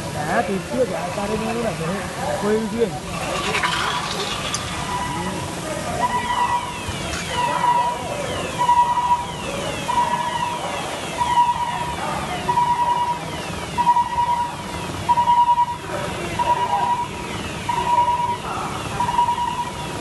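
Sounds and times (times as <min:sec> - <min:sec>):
emergency siren wailing: 0:03.7 - 0:20.0.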